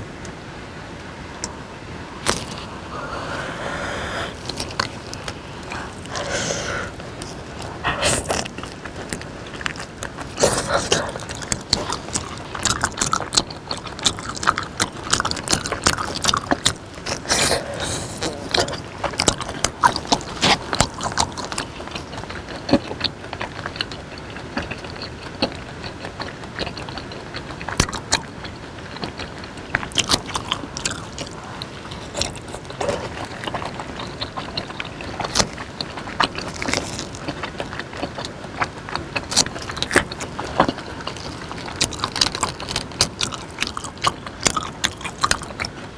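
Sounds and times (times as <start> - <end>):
chewing mouth sounds: 2.2 - 45.9.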